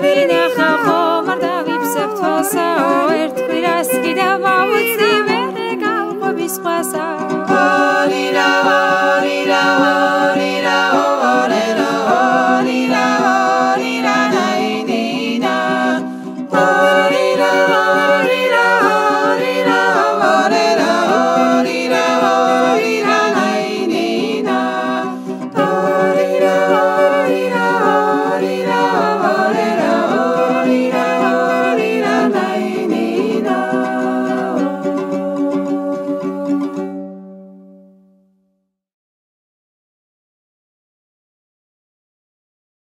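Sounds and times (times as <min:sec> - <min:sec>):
vocal ensemble singing in harmony: 0:00.0 - 0:37.1.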